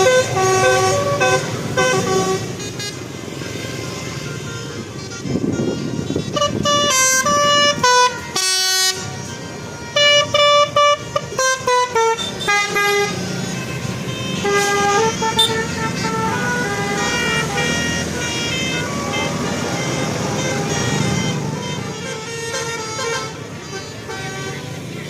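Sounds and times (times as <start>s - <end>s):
low rumble of bus: 0.0s - 25.0s
musical bus horn melody: 0.0s - 25.0s.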